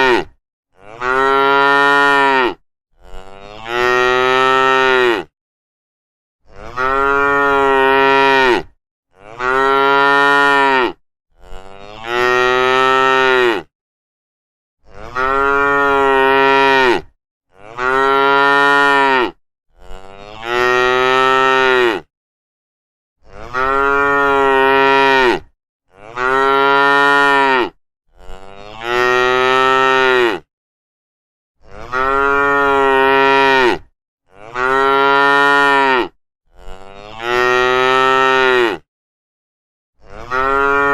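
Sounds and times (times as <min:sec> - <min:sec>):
cows mooing: 0:00.0 - 0:05.3, 0:06.5 - 0:13.7, 0:14.9 - 0:22.1, 0:23.3 - 0:30.5, 0:31.7 - 0:33.8, 0:34.4 - 0:38.8, 0:40.1 - 0:40.9.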